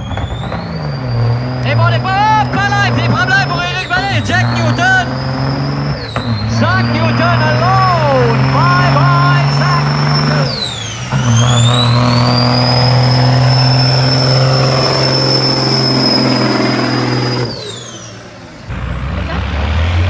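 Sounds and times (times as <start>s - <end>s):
turbo whistle: 0.0s - 18.2s
truck engine drone: 0.0s - 20.0s.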